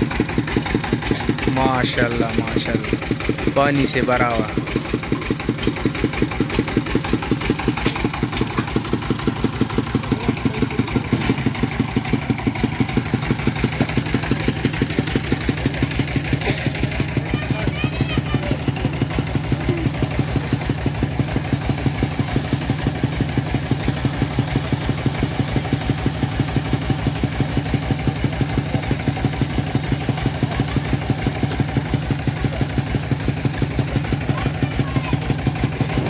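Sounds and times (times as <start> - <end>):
drilling rig engine running: 0.0 - 36.0.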